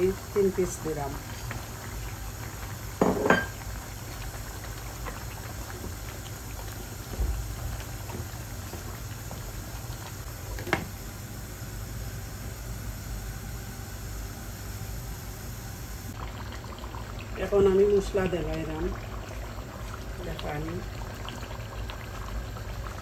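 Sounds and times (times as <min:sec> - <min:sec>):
broth bubbling in pot: 0:00.0 - 0:23.0.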